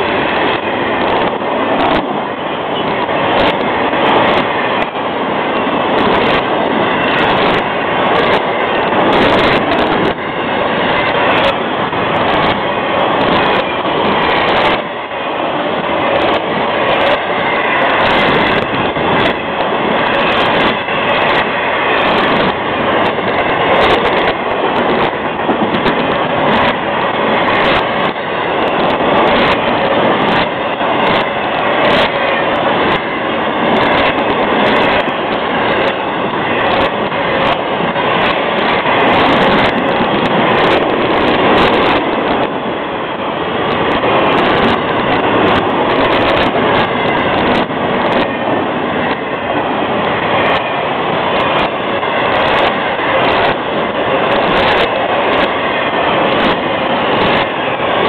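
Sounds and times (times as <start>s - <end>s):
freight train rumbling past: 0.0s - 58.0s
train wheels clicking and clanking: 0.0s - 58.0s.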